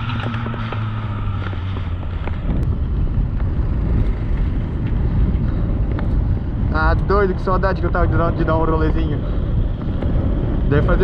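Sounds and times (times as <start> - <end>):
motor vehicle engine hum: 0.0 - 11.0
wind buffeting microphone: 0.0 - 11.0.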